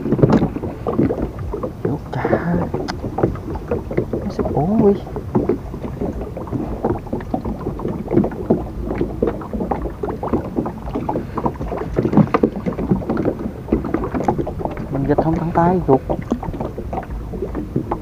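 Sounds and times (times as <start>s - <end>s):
short irregular knocks: 0.0s - 18.0s
water lapping against boat: 0.0s - 18.0s.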